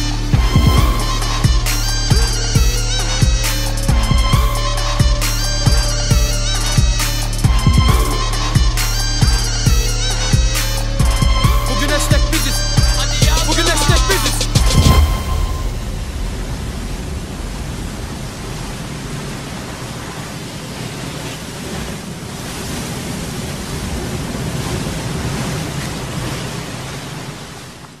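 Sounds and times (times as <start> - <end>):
sea surf rushing: 0.0 - 28.0.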